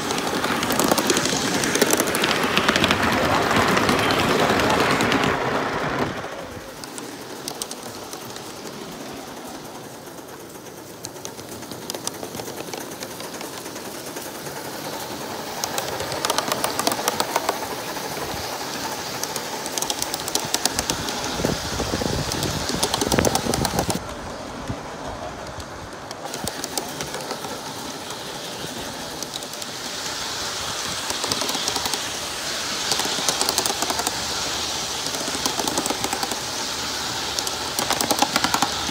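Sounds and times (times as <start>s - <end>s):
model steam train running: 0.0s - 38.9s.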